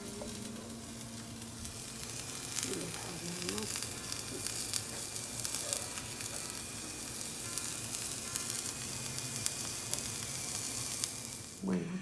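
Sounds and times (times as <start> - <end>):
food sizzling in hot lard: 0.0 - 11.7
fat popping and crackling: 0.0 - 11.8.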